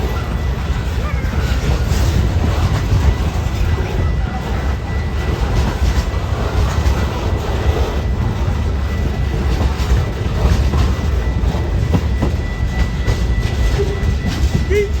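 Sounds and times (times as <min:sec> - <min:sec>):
railroad cars rumbling past: 0:00.0 - 0:15.0.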